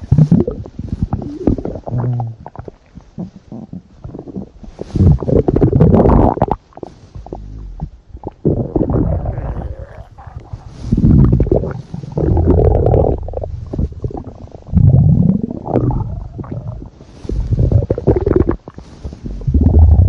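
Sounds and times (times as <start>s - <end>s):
stomach growling: 0.0s - 20.0s.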